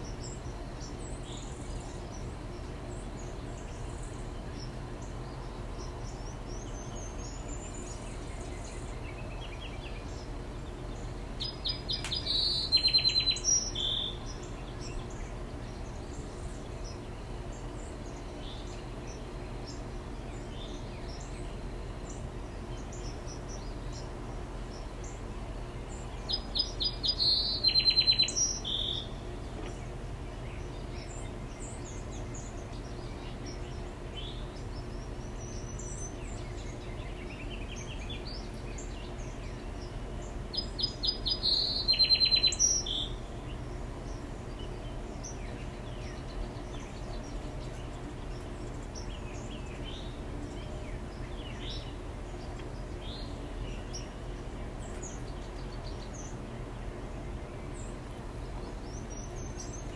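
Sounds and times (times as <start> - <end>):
faint bird chirps: 0.0 - 59.9
low background hum: 0.0 - 59.9
songbird singing loud rapid songs: 0.0 - 59.9.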